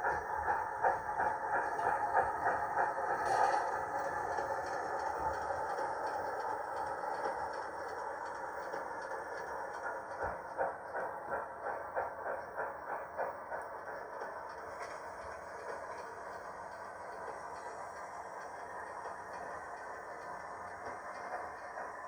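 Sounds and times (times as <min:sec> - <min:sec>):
model train running: 0:00.0 - 0:22.0.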